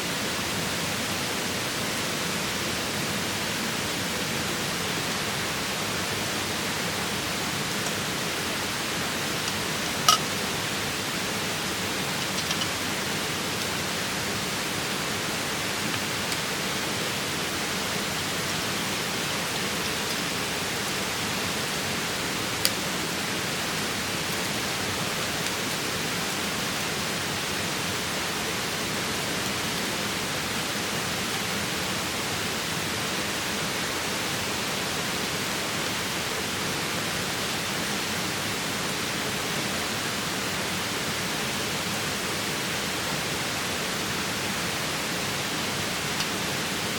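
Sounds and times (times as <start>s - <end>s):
flowing water rushing: 0.0s - 46.9s.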